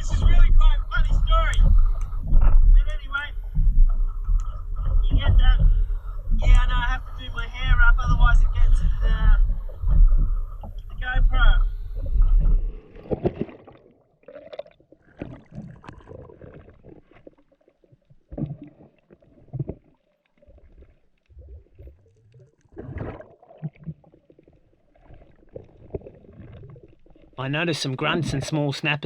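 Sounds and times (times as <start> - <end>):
water sloshing and gurgling: 0.0 - 29.0.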